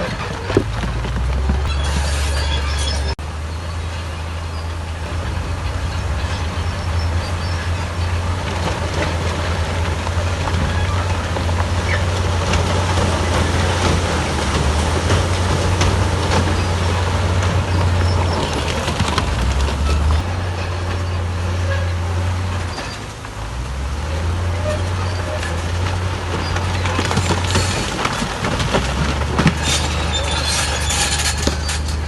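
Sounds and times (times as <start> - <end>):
diesel engine running under load: 0.0 - 32.0
machinery clanks and knocks: 0.0 - 32.0.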